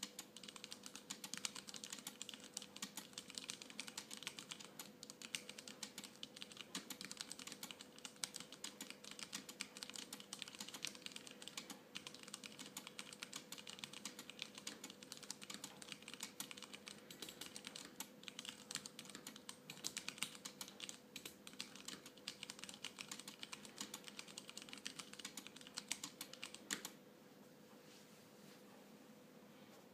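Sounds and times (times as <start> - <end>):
mechanical keyboard typing: 0.0 - 27.0
faint steady hum: 0.0 - 29.9.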